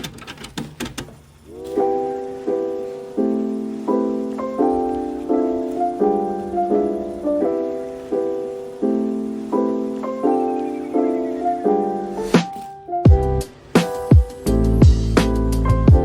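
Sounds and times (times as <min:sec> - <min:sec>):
soft piano chords: 0:01.4 - 0:16.0.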